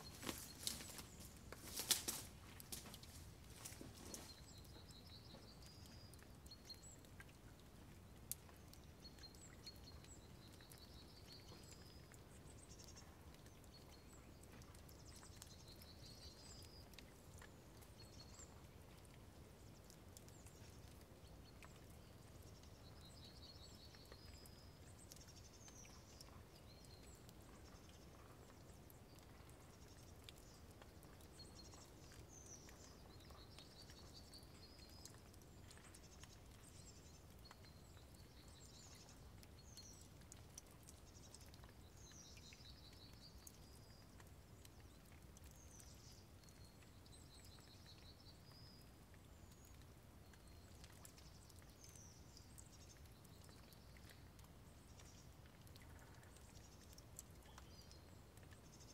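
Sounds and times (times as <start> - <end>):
faint ticks: 0.0 - 58.9
low background hiss: 0.0 - 58.9.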